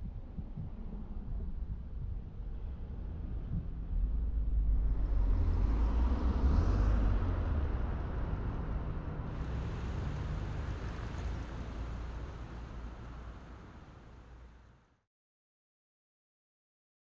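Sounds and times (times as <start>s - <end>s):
vehicle passing with low rumble: 0.0s - 14.9s.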